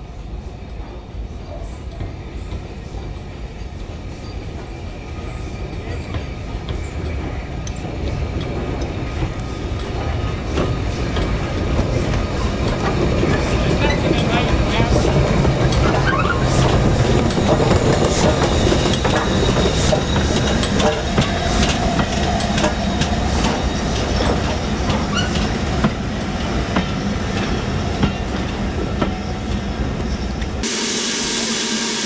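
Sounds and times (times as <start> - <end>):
train wheels clattering over rails: 1.9 - 30.6.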